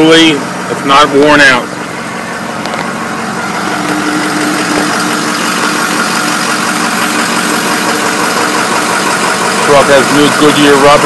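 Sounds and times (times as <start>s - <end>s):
diesel truck engine idling: 0.0s - 11.0s
steady hum: 0.0s - 11.0s.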